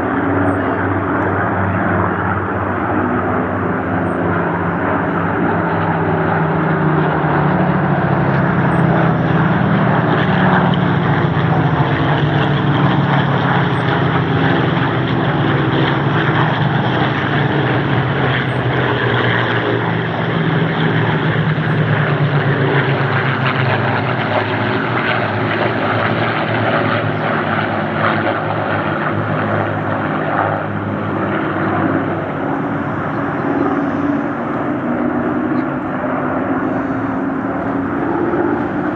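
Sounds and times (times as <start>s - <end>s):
propeller plane flying past: 0.0s - 38.9s.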